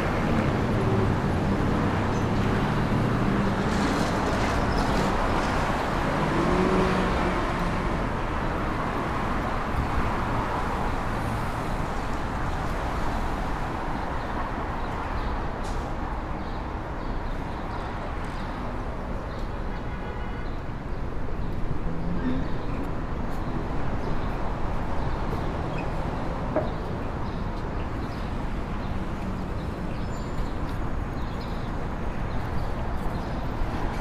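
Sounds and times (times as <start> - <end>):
passing cars and engines: 0.0 - 19.2, 21.0 - 34.0.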